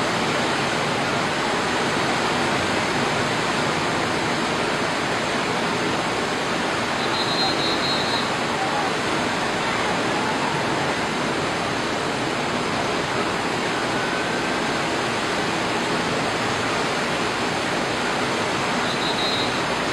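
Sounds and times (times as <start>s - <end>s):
rough sea surf breaking: 0.0s - 19.9s.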